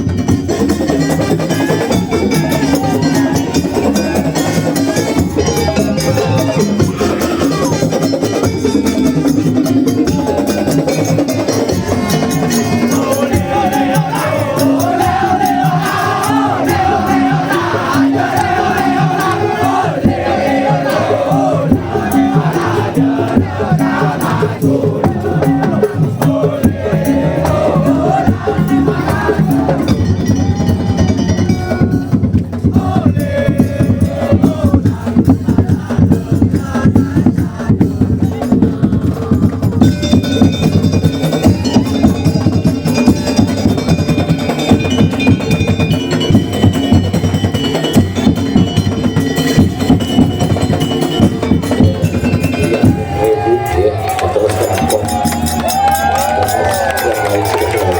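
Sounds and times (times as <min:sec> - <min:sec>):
fast dense drumming: 0:00.0 - 0:57.9.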